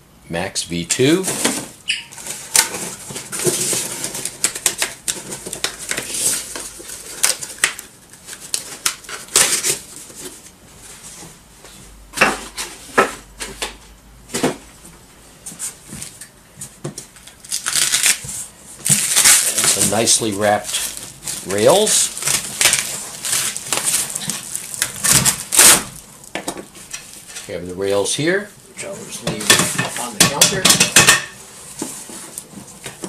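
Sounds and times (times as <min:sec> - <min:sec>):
cardboard and bubble wrap rustling: 0:01.1 - 0:13.6, 0:15.4 - 0:30.7, 0:31.4 - 0:33.0.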